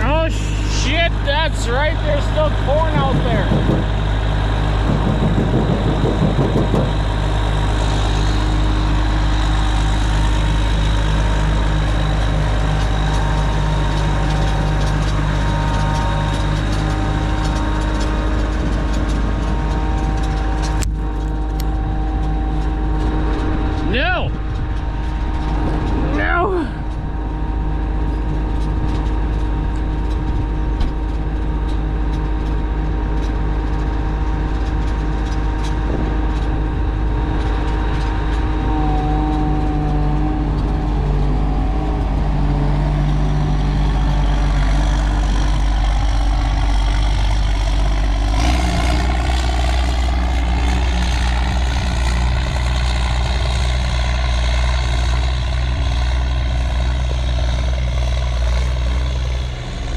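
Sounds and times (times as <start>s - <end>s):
heavy vehicle engine running: 0.0s - 59.9s
high whine: 0.0s - 59.9s.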